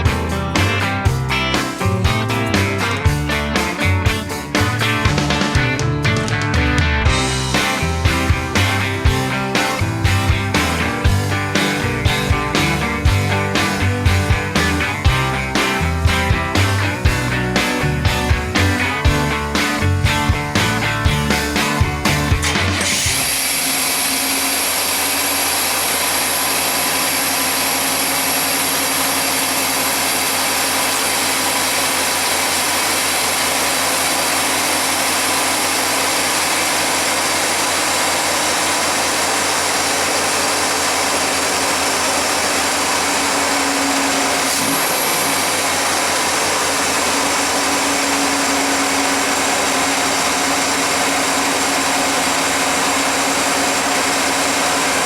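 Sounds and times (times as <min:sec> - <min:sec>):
engine idling with hiss: 0:07.2 - 0:55.0.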